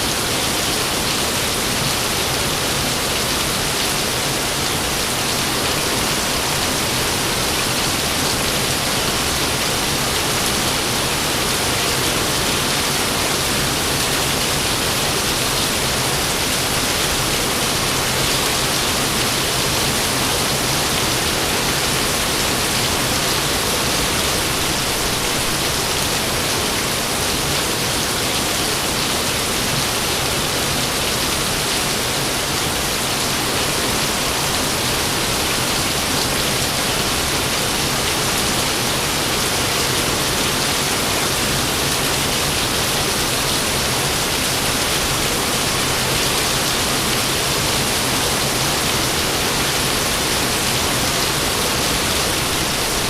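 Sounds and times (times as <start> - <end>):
heavy rainfall: 0.0 - 53.0.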